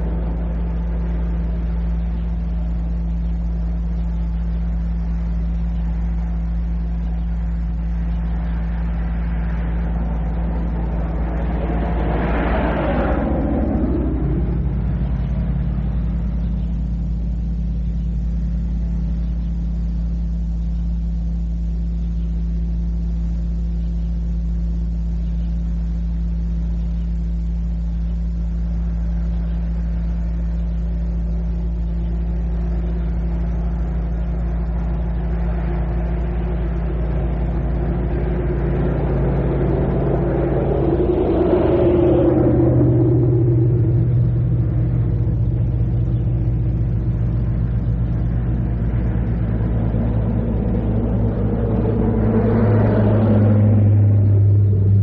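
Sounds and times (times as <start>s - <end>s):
vehicle engine approaching: 0.0s - 55.0s.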